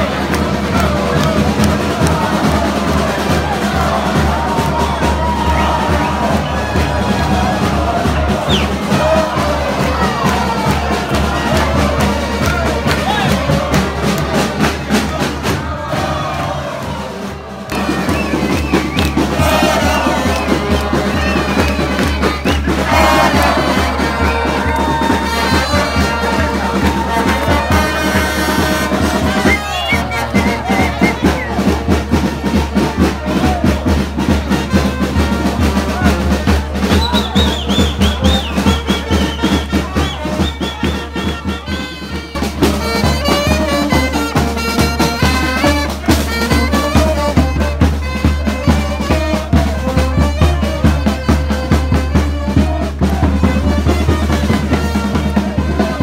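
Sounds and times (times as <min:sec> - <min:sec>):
crowd voices: 0:00.0 - 0:56.0
street band with saxophones and brass: 0:00.0 - 0:56.0.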